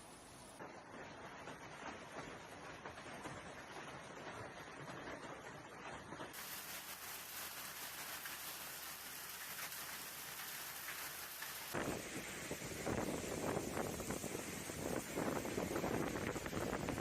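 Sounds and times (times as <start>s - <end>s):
heavy rain on a surface: 0.1s - 17.0s.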